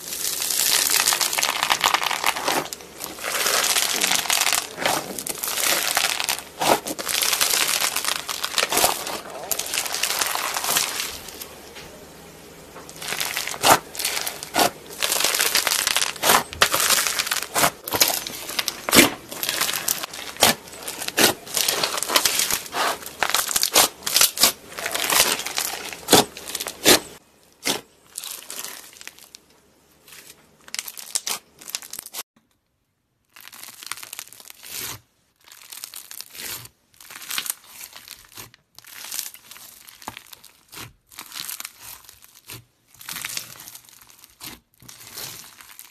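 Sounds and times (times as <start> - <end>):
crunchy slime crackling and popping: 0.0 - 11.6, 12.7 - 32.2, 33.2 - 45.9.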